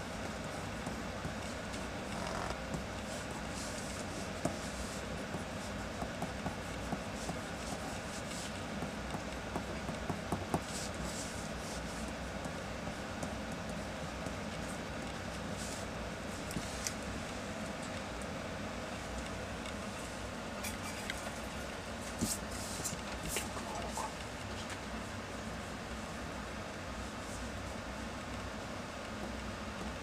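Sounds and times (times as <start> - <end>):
background hum: 0.0 - 30.0.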